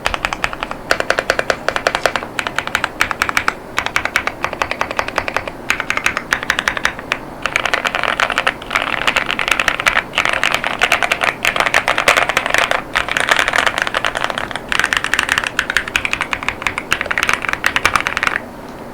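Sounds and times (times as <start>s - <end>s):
mechanical keyboard typing: 0.0s - 18.4s.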